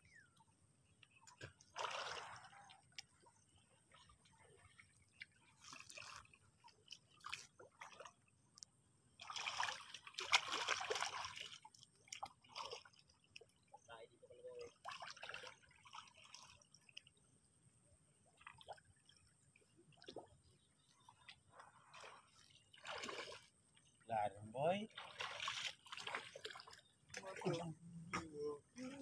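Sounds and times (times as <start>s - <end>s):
people wading in muddy water: 0.1s - 29.0s
water sloshing and splashing: 1.0s - 17.5s, 18.2s - 29.0s.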